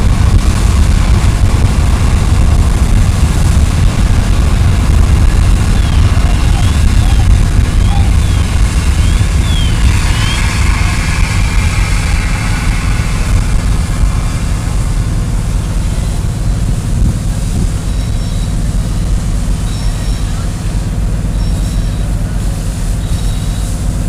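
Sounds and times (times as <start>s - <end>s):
fire hoses spraying water: 0.0s - 24.0s.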